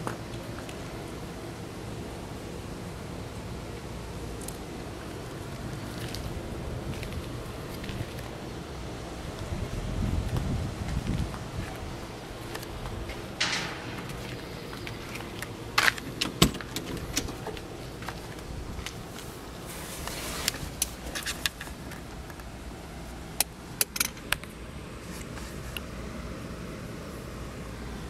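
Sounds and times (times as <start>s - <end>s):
low steady hiss: 0.0s - 28.0s.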